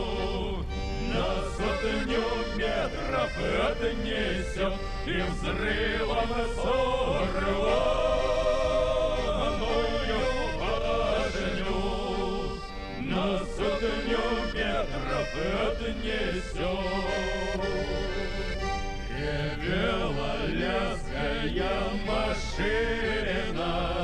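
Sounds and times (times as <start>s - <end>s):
instrumental melody with accompaniment: 0.0s - 24.0s.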